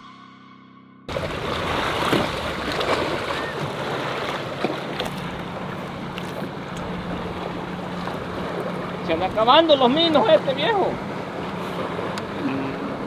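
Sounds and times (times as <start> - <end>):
small water splashes: 1.1 - 12.2
low motor hum: 1.1 - 13.0.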